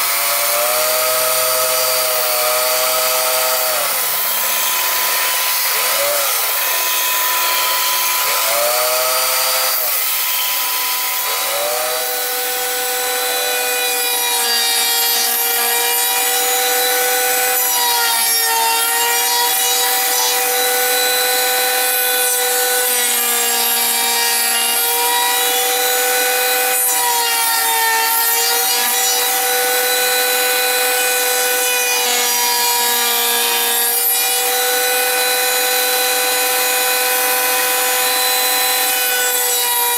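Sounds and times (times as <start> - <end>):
power saw motor whine: 0.0 - 39.9
saw rasping through wood: 0.0 - 39.9.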